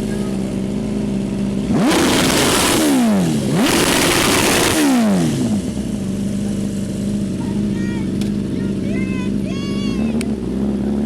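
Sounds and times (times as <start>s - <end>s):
engine idling and revving: 0.0s - 11.0s.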